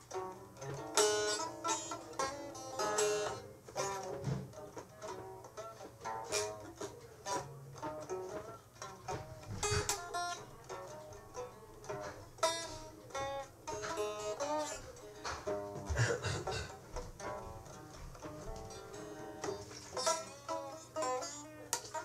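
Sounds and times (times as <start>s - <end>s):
plucked string instrument notes: 0.0s - 22.0s.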